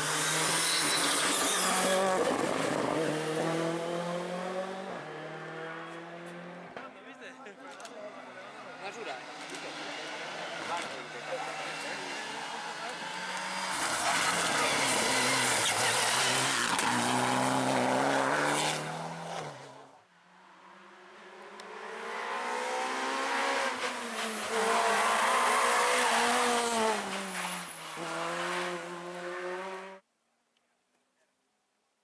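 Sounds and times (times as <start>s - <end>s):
rally car engines at high revs: 0.0s - 6.8s, 8.2s - 30.0s.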